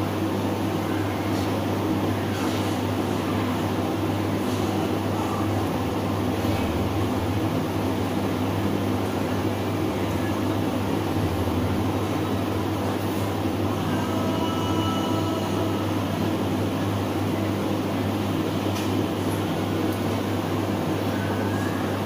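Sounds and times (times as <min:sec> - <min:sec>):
mechanical hum and rumble: 0:00.0 - 0:22.0.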